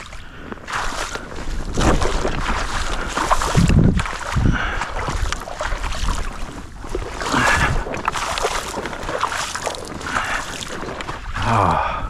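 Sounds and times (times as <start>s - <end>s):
boots wading through water: 0.0s - 11.9s
wind buffeting microphone: 0.0s - 12.0s.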